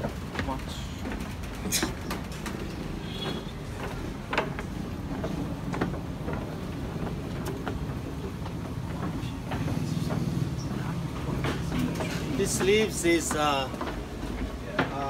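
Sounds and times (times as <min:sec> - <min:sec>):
footsteps on wooden planks: 0:00.0 - 0:15.0.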